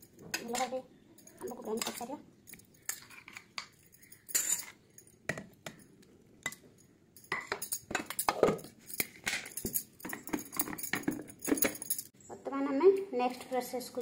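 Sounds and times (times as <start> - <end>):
metallic clinks and knocks: 0.0 - 12.1.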